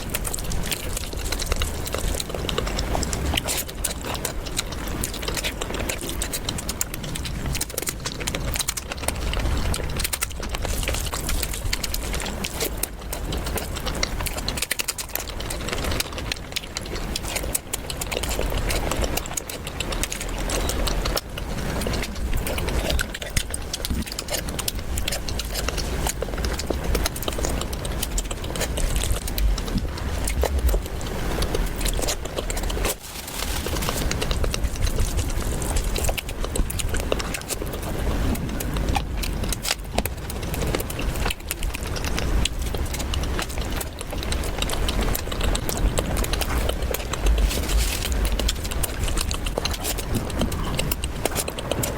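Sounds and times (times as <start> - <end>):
close chewing with wet mouth smacks: 0.0 - 51.9.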